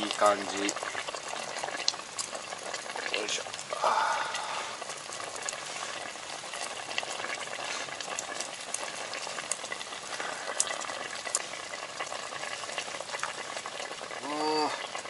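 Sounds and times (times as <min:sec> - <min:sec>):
pot simmering with steady hiss: 0:00.0 - 0:15.0.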